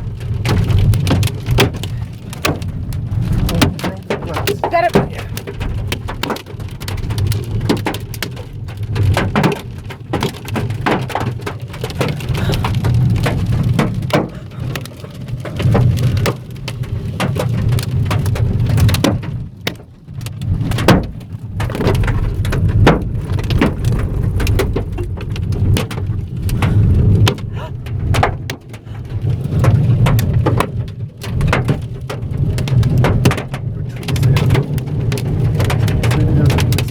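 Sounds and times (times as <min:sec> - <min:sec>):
car low rumble: 0:00.0 - 0:36.9
hailstones knocking on car: 0:00.0 - 0:36.9.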